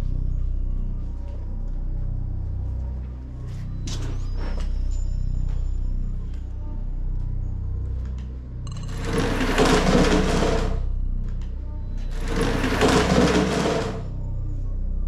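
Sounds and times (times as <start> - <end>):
low droning music: 0.0 - 15.0.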